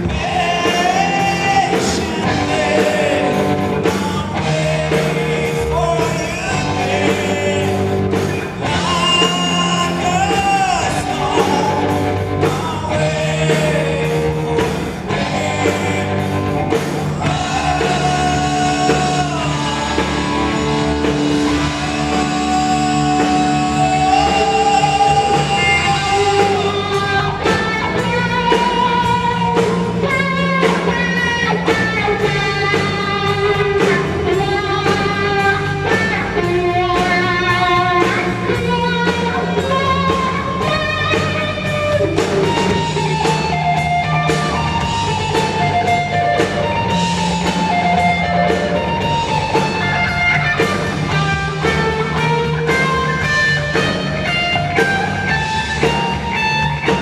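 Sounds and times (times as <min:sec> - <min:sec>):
person singing: 0:00.0 - 0:48.1
bass guitar: 0:00.0 - 0:57.0
drum kit: 0:00.0 - 0:57.0.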